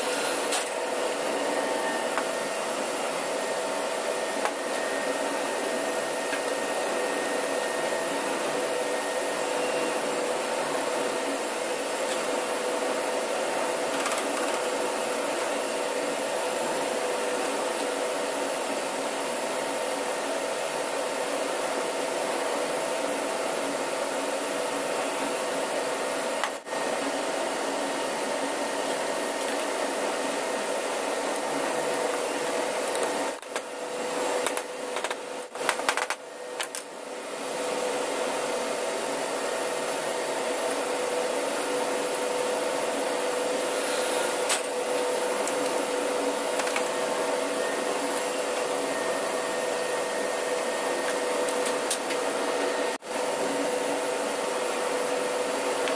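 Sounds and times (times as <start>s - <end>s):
machinery and ventilation hum: 0.0s - 55.9s
mid-pitched whine: 0.0s - 55.9s.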